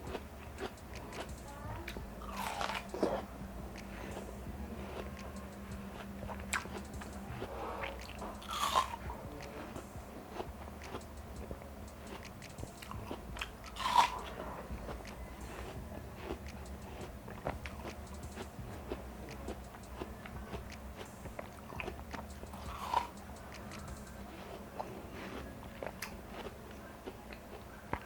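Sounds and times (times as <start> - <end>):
biting and chewing watermelon: 0.0 - 28.0.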